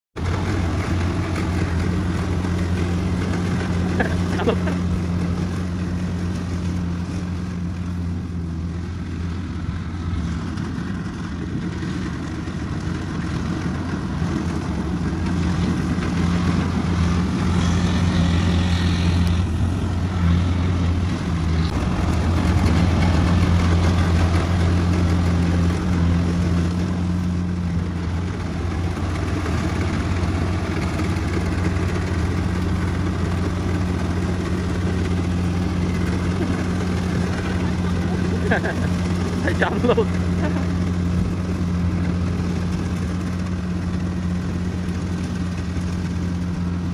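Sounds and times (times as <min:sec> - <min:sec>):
harvester engine humming: 0:00.2 - 0:46.9.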